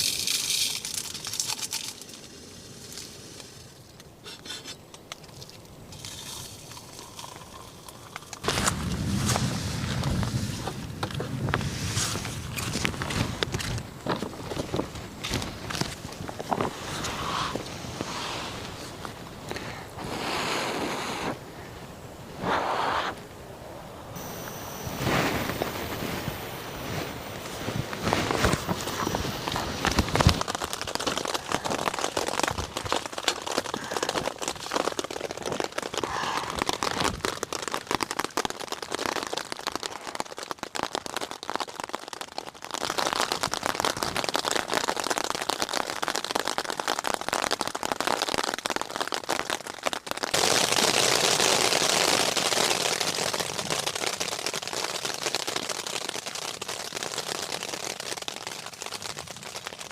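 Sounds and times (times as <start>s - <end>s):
rain pattering: 0.0s - 19.8s, 24.2s - 59.9s.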